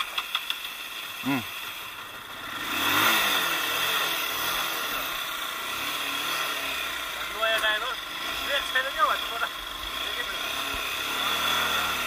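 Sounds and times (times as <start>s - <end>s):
vehicle engine revving: 0.2s - 12.0s.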